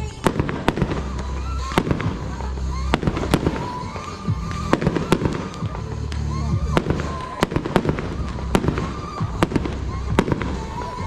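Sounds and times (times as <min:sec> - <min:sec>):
fireworks bangs: 0:00.0 - 0:11.0
music playing: 0:00.0 - 0:11.0.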